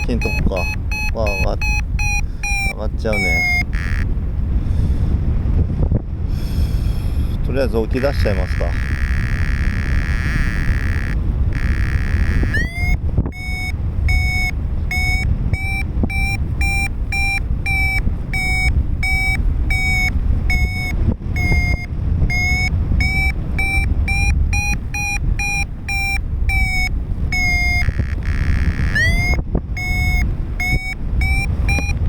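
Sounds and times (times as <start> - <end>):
variometer short beeps: 0.0 - 4.1, 7.8 - 32.0
wind rushing on microphone: 0.0 - 32.0.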